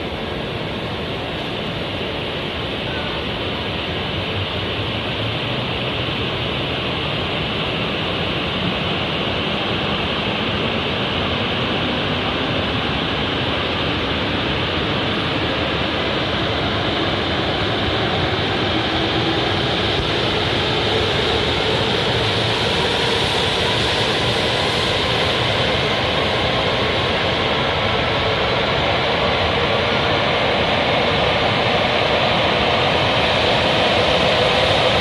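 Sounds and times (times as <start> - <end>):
rising train whine: 0.0 - 35.0
train rushing noise: 0.0 - 35.0.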